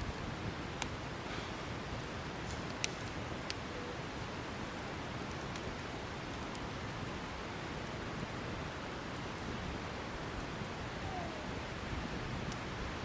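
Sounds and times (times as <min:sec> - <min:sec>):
fire crackles: 0:00.0 - 0:13.0
wood fire hissing: 0:00.0 - 0:13.0.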